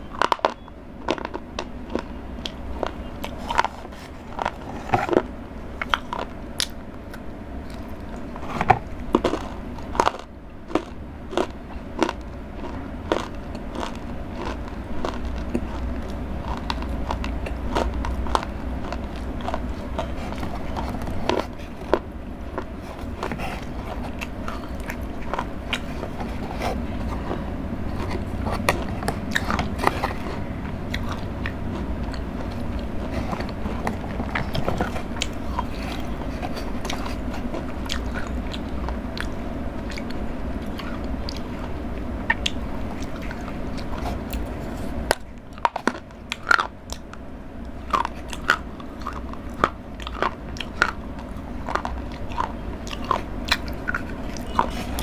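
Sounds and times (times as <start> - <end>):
chocolate crunching while chewing: 0.0 - 55.0
steady low hum: 0.0 - 55.0.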